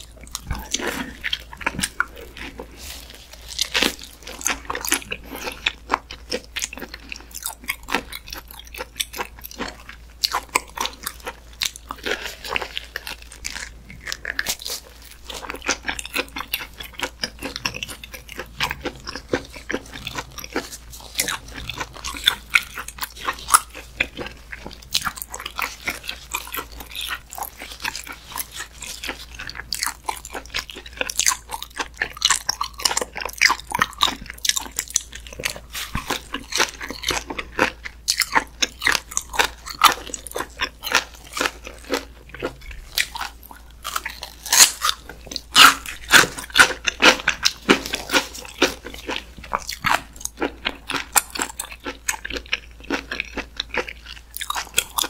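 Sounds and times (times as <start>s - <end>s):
chewing raw meat: 0.0s - 55.0s.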